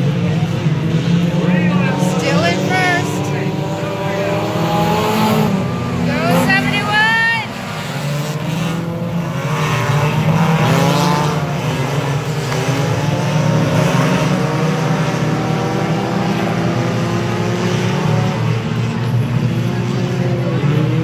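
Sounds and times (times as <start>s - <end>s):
race car engines accelerating: 0.0s - 21.0s.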